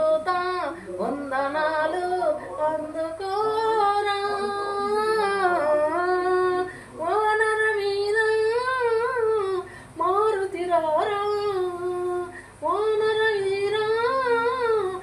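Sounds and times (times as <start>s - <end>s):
woman singing devotional song: 0.0s - 15.0s.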